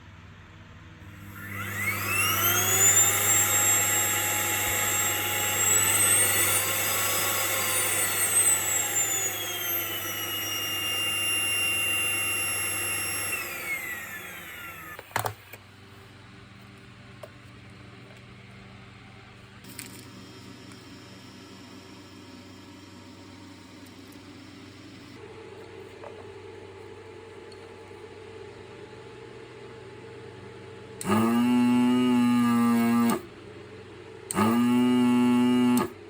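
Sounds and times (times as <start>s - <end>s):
vacuum cleaner motor whining: 1.1s - 29.2s, 30.0s - 33.3s, 34.3s - 36.0s.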